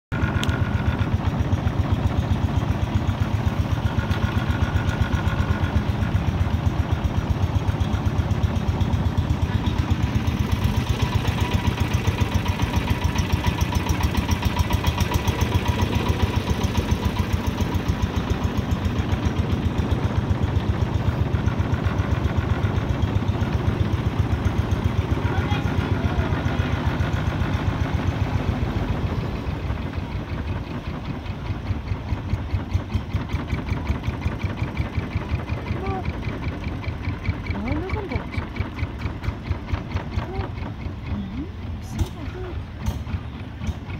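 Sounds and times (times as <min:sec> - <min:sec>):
boat engine running: 0:00.1 - 0:43.9.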